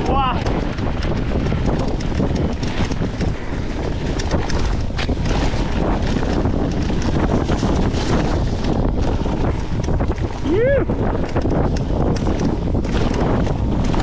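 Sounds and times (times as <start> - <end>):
bike clicks and rattles: 0.0 - 14.0
bike tyres rolling on dirt trail: 0.0 - 14.0
wind on microphone: 0.0 - 14.0.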